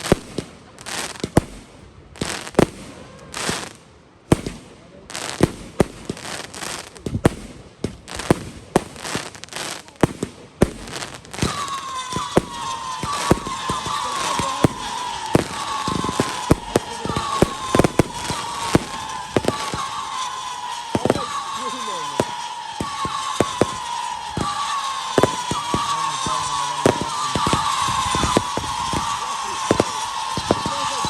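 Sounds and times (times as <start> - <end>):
fireworks banging and crackling: 0.0 - 31.0
whistling fireworks: 0.0 - 31.0.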